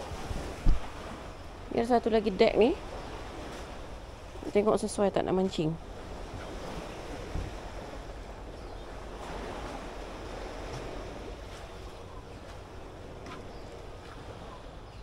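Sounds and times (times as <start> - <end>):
sea waves washing in: 0.0 - 15.0.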